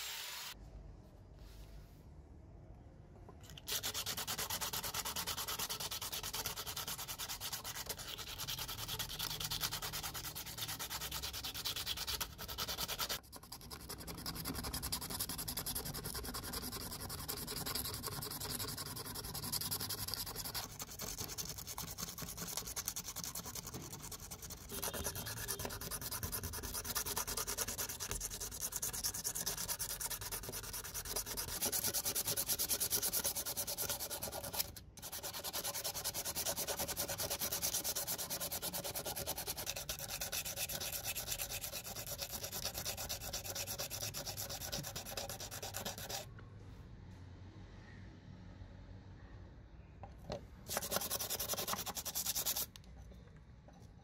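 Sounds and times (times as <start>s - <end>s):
sandpaper rubbing: 3.7s - 46.3s, 50.7s - 52.7s.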